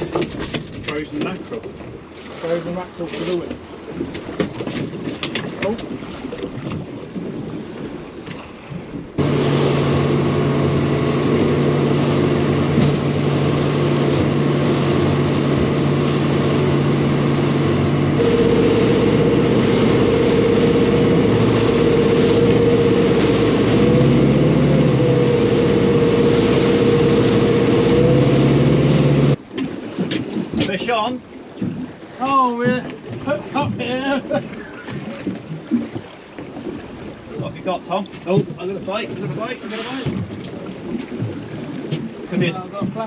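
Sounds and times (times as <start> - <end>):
motorboat engine running: 0.0 - 43.0
water noise: 0.0 - 43.0
wind: 0.0 - 43.0.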